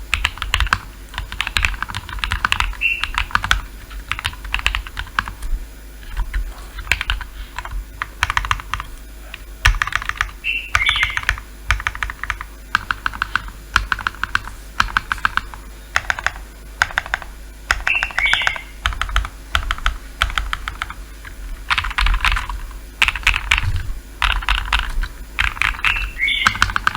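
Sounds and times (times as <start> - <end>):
typing on mechanical keyboard: 0.1 - 5.4, 6.2 - 26.9.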